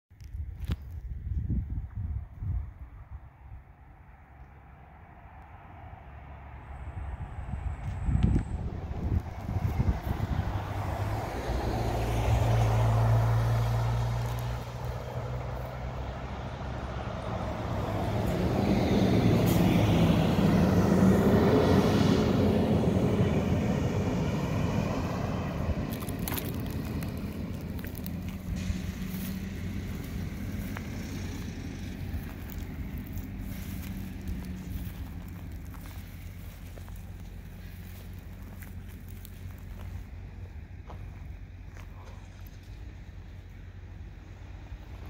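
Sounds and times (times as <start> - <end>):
vehicles driving past: 2.2 - 45.0.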